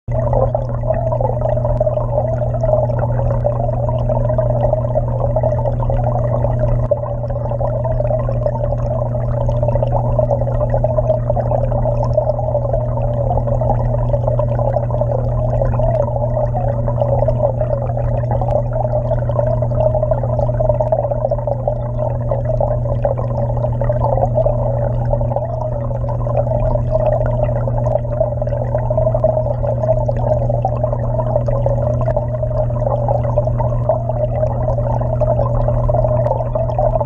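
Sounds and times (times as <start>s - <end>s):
constant low hum: 0.0s - 37.0s
underwater aquarium water gurgling: 0.0s - 37.0s.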